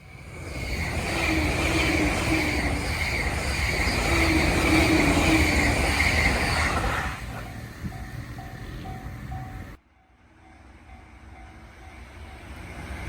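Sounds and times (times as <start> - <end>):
train passing at high speed: 0.0 - 13.0.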